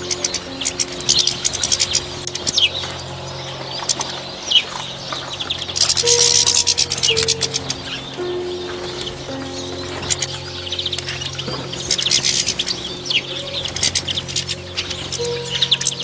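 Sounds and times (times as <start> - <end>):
soft background music: 0.0 - 16.0
songbirds chirping: 0.0 - 16.0.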